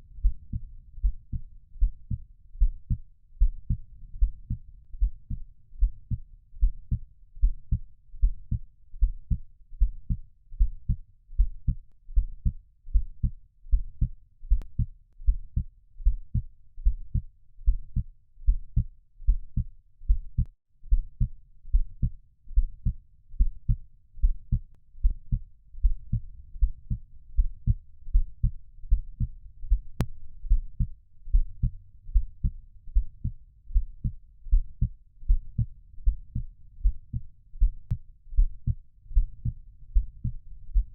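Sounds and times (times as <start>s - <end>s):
heartbeat thumps: 0.2s - 40.9s.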